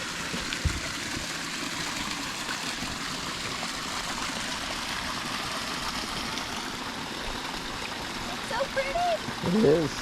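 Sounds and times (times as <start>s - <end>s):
creek water running: 0.0s - 10.0s.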